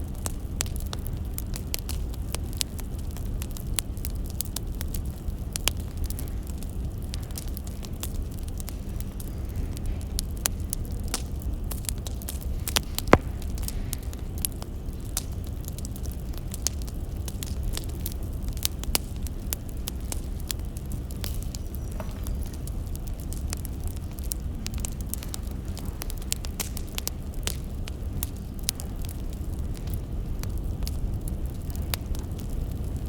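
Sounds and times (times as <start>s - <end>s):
firewood crackling and popping: 0.0s - 33.0s
low steady rumble: 0.0s - 33.0s.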